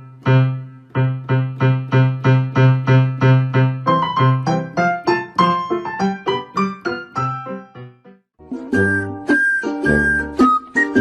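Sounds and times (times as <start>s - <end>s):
keyboard background music: 0.0s - 11.0s.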